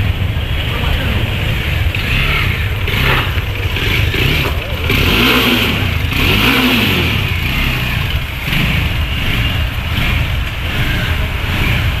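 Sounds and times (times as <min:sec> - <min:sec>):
motorcycle engine revving: 0:00.0 - 0:12.0
road noise: 0:00.0 - 0:12.0.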